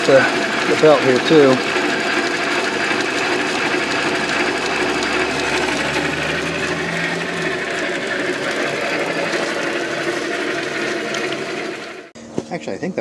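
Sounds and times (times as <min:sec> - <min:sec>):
bandsaw motor running: 0:00.0 - 0:12.1
deeper hum: 0:01.7 - 0:12.1.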